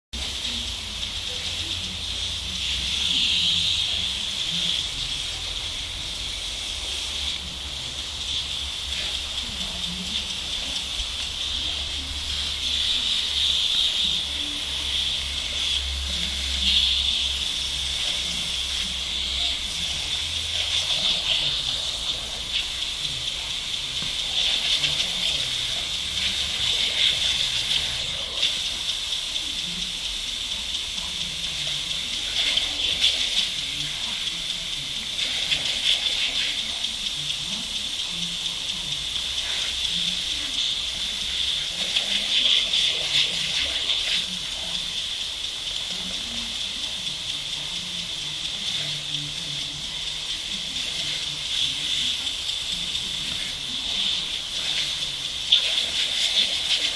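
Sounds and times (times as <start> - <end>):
sprinkler spraying water hiss: 0.2 - 56.9.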